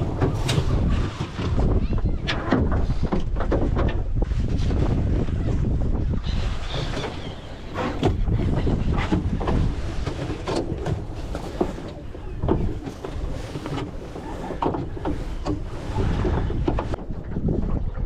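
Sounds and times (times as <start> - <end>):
knocks and splashes from hull: 0.0 - 18.0
wind buffeting microphone: 0.0 - 18.0.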